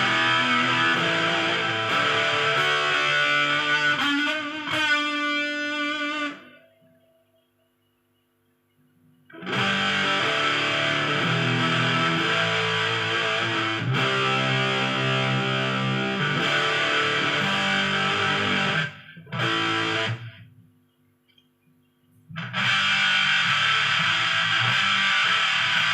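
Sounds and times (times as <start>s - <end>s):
distorted electric guitar: 0.0s - 7.0s, 9.3s - 20.6s, 22.3s - 25.9s.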